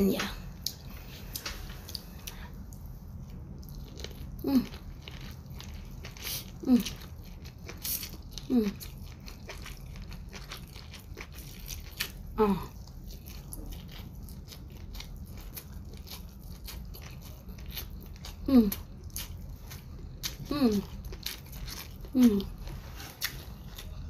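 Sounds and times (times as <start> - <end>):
chewing with wet mouth clicks: 0.5 - 22.6.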